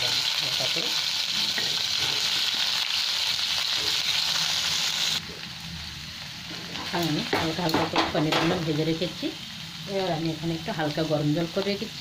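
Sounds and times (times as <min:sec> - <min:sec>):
cheese sizzling in hot oil: 0:00.0 - 0:12.0.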